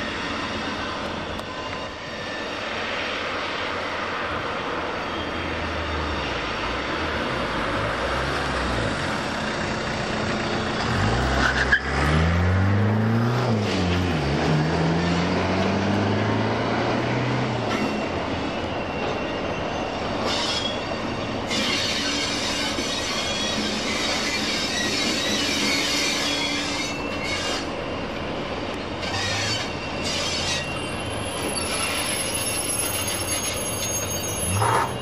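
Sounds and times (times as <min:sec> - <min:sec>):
idling locomotives rumbling: 0:00.0 - 0:11.8, 0:12.6 - 0:35.0.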